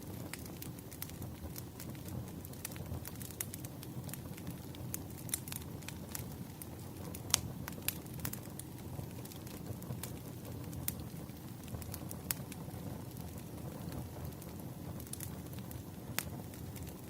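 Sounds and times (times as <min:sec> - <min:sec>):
low rumble of burning logs: 0:00.0 - 0:17.0
wood fire crackling and popping: 0:00.0 - 0:17.0.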